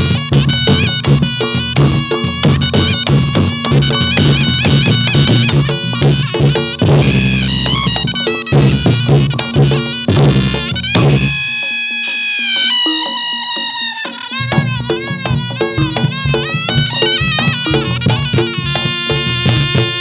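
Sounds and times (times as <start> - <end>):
quick hand drum strokes: 0.0 - 20.0
shrill shawm melody: 0.0 - 20.0.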